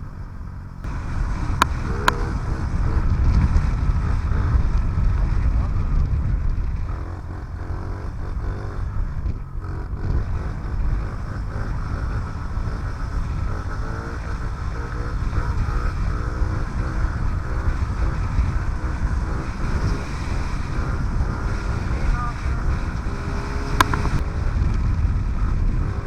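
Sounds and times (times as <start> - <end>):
small dirt bike engine running: 0.0 - 26.0.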